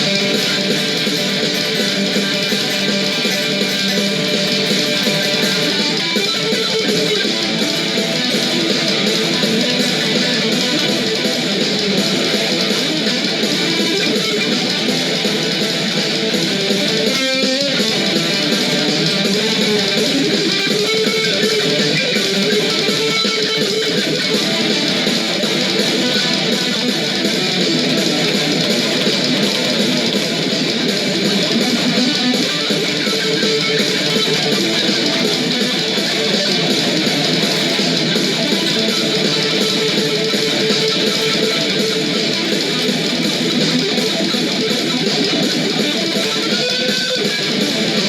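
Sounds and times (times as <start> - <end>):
heavy metal electric guitar: 0.0 - 48.0.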